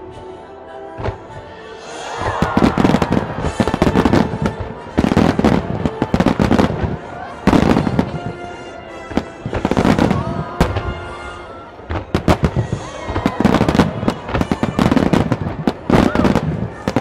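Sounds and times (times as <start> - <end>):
firework booms and crackles: 2.2 - 8.5, 9.1 - 11.2, 11.8 - 17.0.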